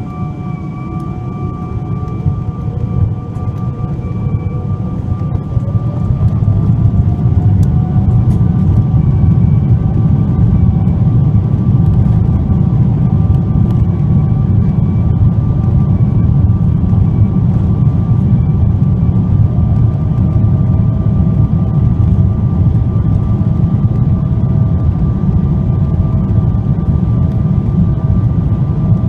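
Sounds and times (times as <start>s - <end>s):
jet engine fan whine: 0.0s - 29.0s
jet engines rumbling: 0.0s - 29.0s.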